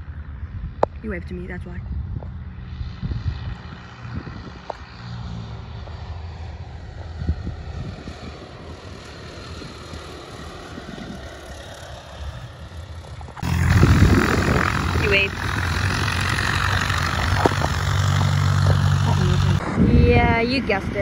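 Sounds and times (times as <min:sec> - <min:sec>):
propeller plane engine running: 0:00.0 - 0:21.0
wind rumbling on microphone: 0:00.0 - 0:21.0.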